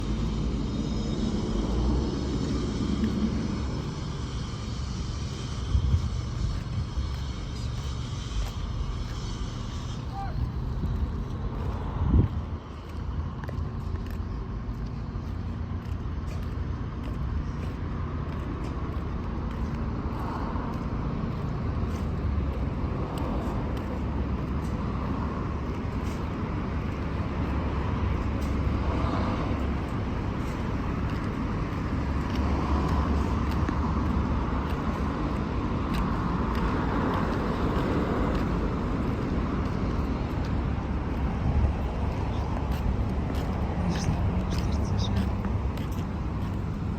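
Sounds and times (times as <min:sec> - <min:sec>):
cars driving past: 0:00.0 - 0:46.9.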